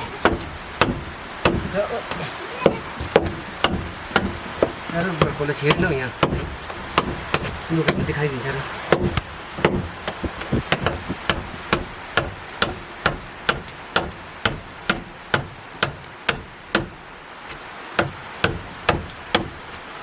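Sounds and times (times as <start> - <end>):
sharp knocking strikes: 0.2 - 8.3, 8.9 - 17.0, 18.0 - 19.6.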